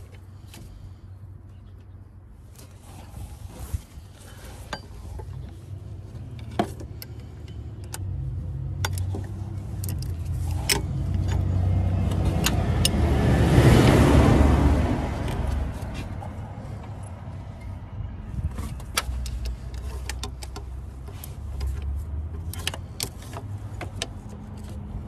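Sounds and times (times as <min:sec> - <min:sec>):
low vehicle rumble: 0:00.0 - 0:25.0.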